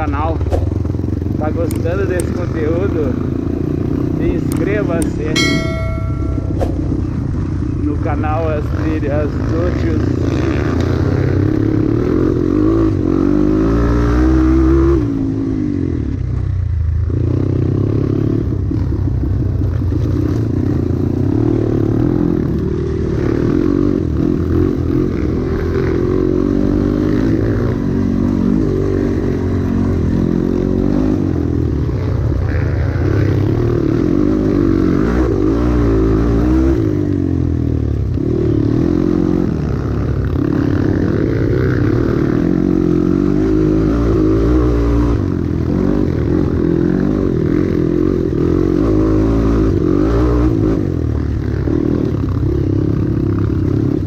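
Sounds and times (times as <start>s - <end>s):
dirt bike engine revving: 0.0s - 16.2s, 17.1s - 54.0s.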